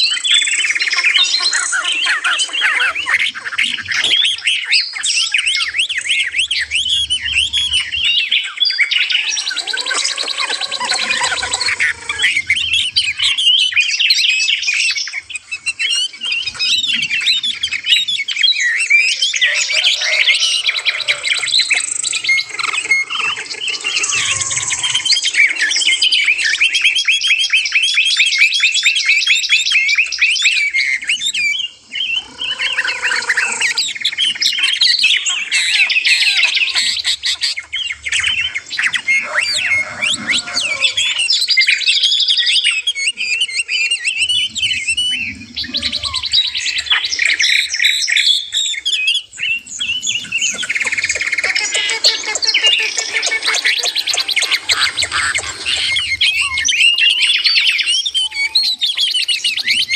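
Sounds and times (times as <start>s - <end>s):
low whistled bird notes: 0.0s - 59.9s
songbirds chirping and trilling: 0.0s - 59.9s.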